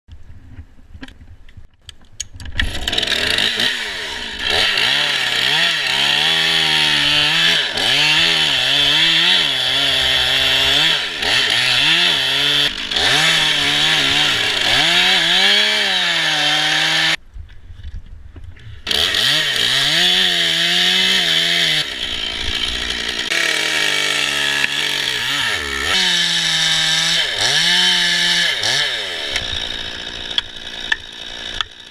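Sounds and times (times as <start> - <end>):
chainsaw cutting wood: 2.6 - 17.2, 18.8 - 31.9.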